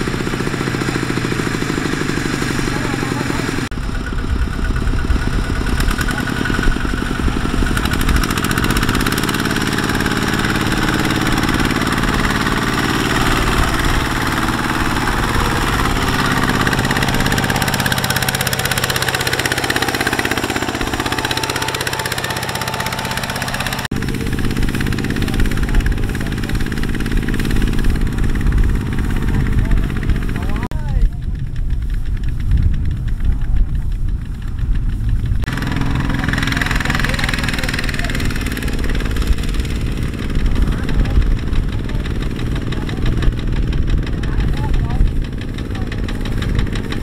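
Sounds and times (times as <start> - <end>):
diesel tiller engine running: 0.0 - 47.0.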